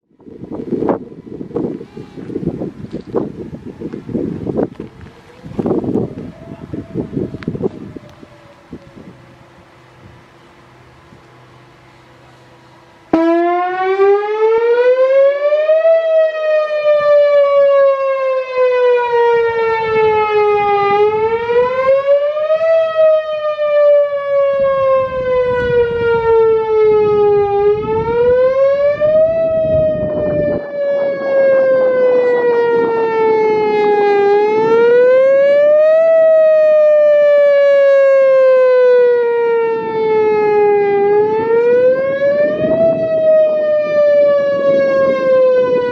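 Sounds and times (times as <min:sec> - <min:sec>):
tornado siren wailing: 0:00.0 - 0:45.9.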